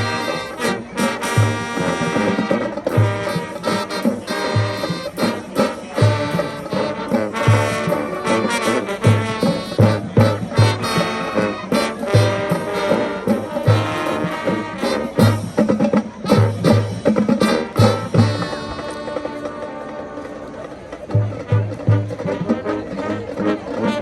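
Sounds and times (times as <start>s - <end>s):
brass melody: 0.0s - 24.0s.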